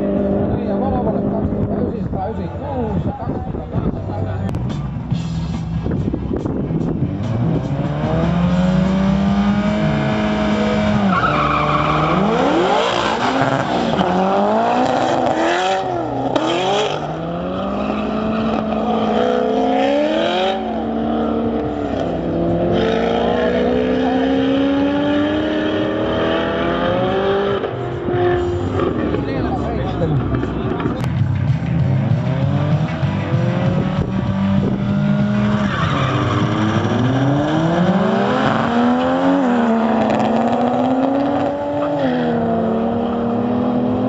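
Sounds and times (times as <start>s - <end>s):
car engines accelerating hard: 0.0s - 44.0s.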